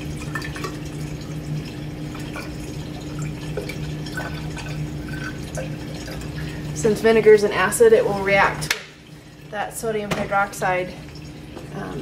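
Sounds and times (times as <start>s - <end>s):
liquid trickling and dripping: 0.0s - 12.0s.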